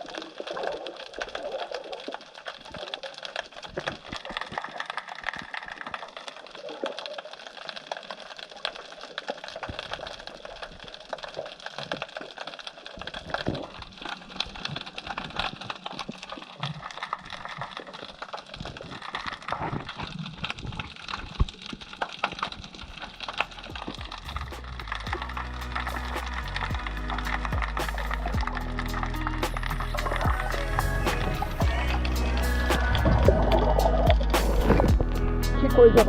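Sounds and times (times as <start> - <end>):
underwater crackling and clicking: 0.0 - 36.0.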